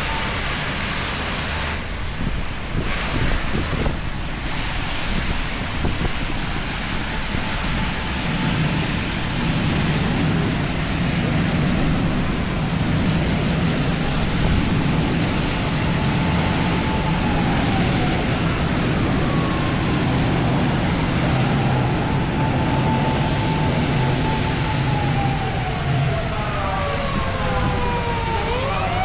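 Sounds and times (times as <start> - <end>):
faint siren wailing: 0.0 - 1.6, 5.6 - 29.0
heavy rain hiss: 0.0 - 29.0.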